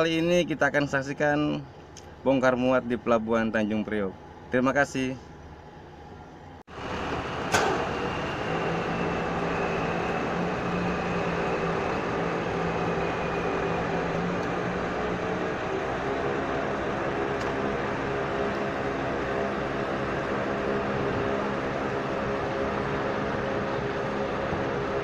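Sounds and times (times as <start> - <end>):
diesel engines droning: 0.0 - 25.0.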